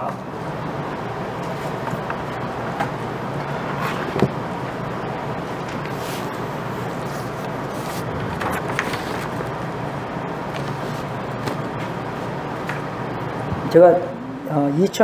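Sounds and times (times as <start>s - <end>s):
low hum: 2.0s - 14.5s.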